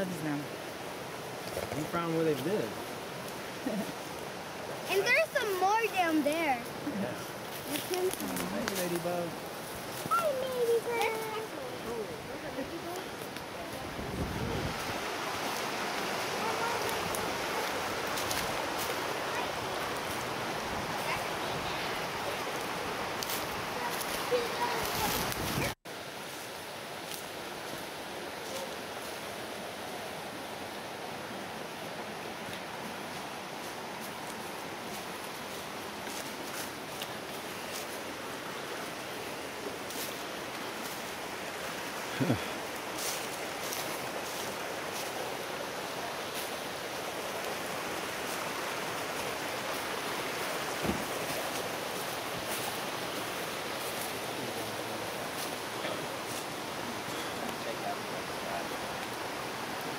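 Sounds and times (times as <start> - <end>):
forest creek rushing: 0.0 - 59.9.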